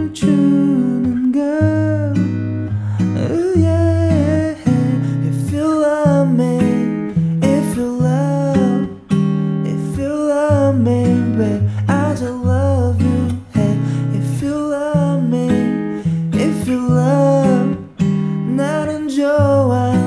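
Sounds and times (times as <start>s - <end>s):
man singing softly: 0.0s - 20.0s
strummed acoustic guitar: 0.0s - 20.0s.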